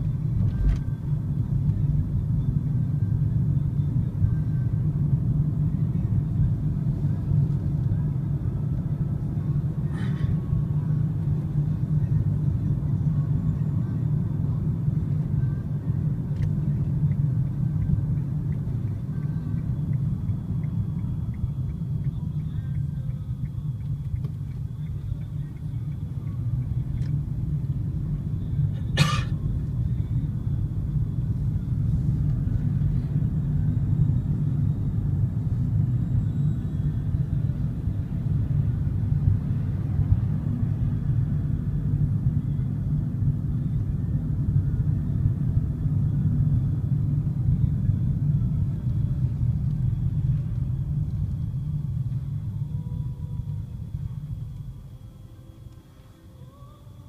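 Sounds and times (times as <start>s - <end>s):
engine and tyre rumble in car: 0.0s - 57.0s.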